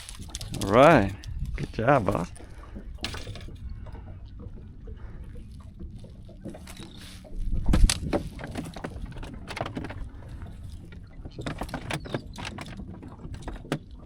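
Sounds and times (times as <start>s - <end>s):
low steady rumble: 0.0s - 11.4s
knocks and clicks on boat: 0.0s - 14.0s
water splashing: 0.0s - 14.0s.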